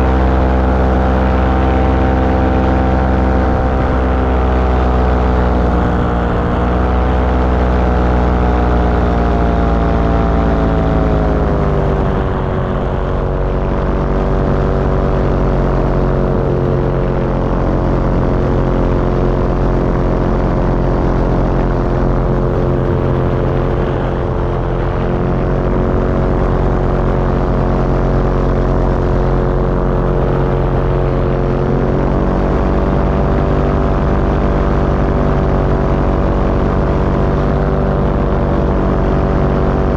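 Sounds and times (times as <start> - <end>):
small aircraft engine and propeller: 0.0 - 39.9.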